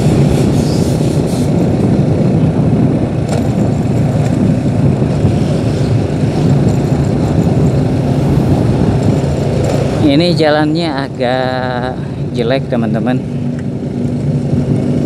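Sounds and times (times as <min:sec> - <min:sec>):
road and wind noise: 0:00.0 - 0:15.0
vehicle engine humming: 0:00.0 - 0:15.0.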